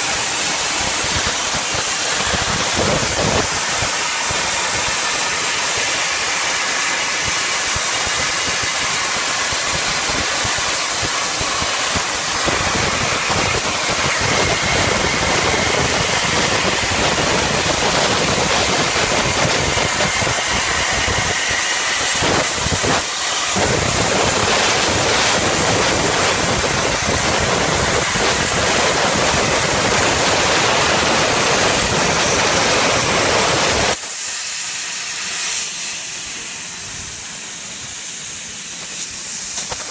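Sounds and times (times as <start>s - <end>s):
plasma arc hissing: 0.0s - 39.9s.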